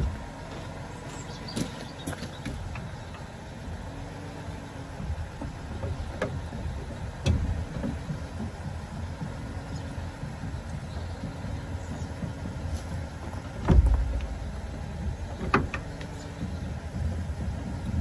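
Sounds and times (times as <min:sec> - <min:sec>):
engine idling hum: 0:00.0 - 0:18.0
metal clanks and knocks: 0:01.5 - 0:18.0.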